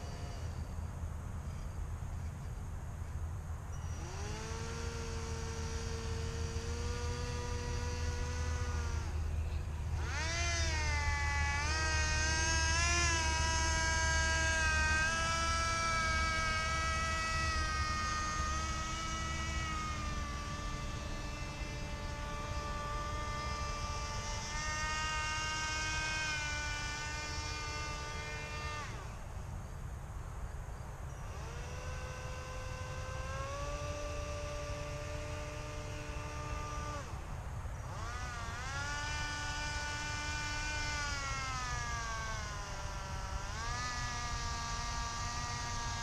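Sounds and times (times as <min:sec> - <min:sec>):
small electric motor whine: 0:00.0 - 0:46.0.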